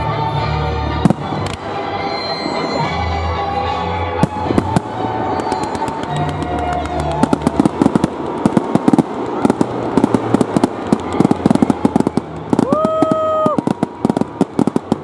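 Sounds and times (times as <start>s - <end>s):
fireworks bangs and crackles: 0.9s - 2.9s, 4.1s - 15.0s.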